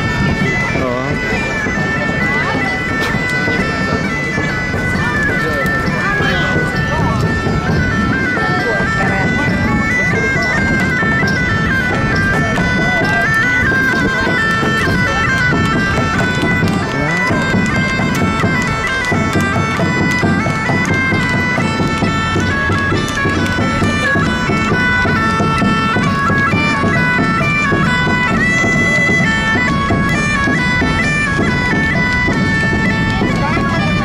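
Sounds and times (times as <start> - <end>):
bagpipes playing: 0.0 - 34.0.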